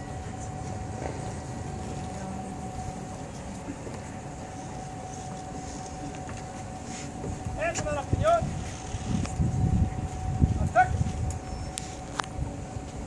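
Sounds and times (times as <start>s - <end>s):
faint even hum: 0.0s - 13.0s.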